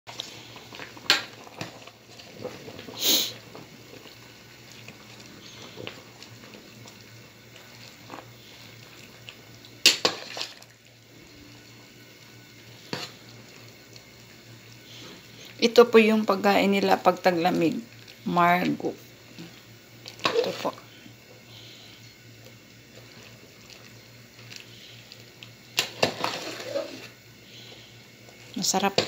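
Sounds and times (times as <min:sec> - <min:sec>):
stew bubbling in pot: 0:00.1 - 0:29.0.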